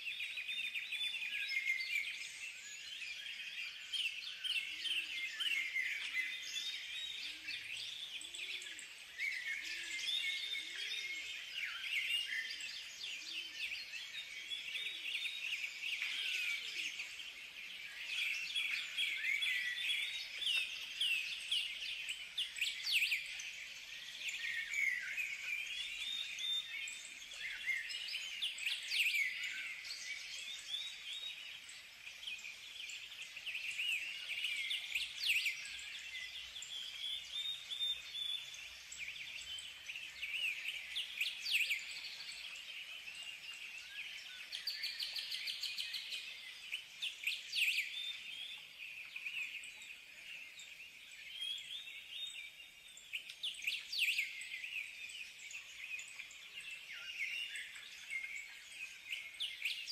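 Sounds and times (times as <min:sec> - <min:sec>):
birds chirping: 0:00.1 - 0:59.9.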